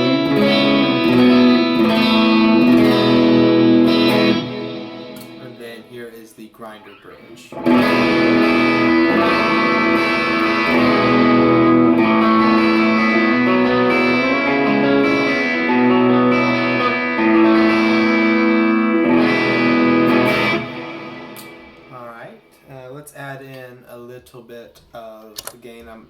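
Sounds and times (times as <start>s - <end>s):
clean electric guitar chords: 0.0s - 6.0s, 7.2s - 22.5s.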